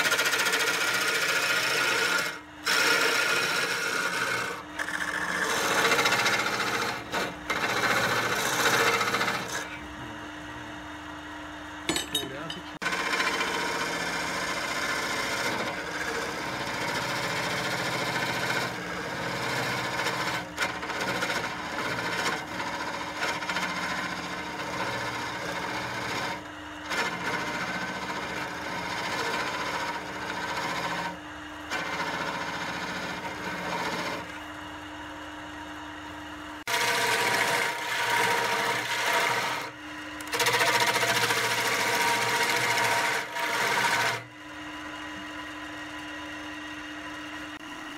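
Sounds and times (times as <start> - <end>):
chisel scraping spinning wood: 0.0 - 10.2, 11.9 - 34.5, 36.6 - 44.3
wood lathe humming: 0.0 - 35.8, 36.6 - 47.9.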